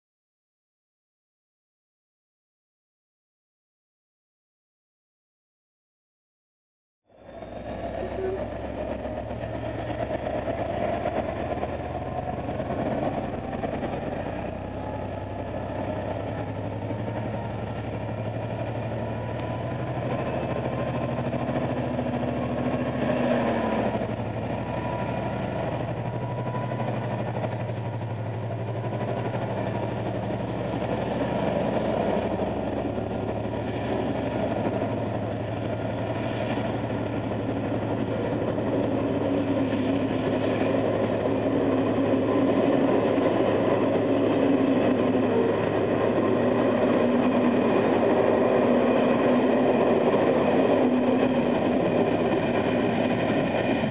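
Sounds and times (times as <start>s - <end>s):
diesel locomotive engine humming: 7.1s - 53.9s.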